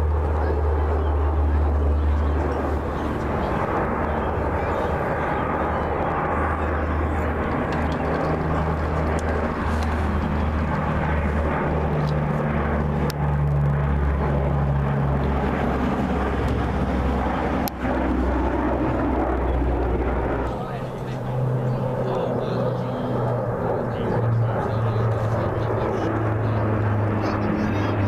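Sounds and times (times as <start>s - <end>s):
airplane engine droning: 0.0s - 28.0s.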